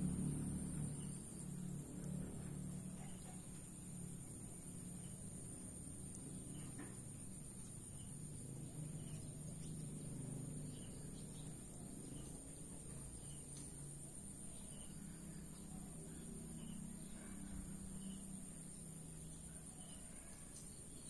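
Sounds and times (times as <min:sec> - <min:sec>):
faint chirps: 0:00.0 - 0:21.0
high-pitched insect trill: 0:00.0 - 0:21.0
low steady hum: 0:00.0 - 0:21.0.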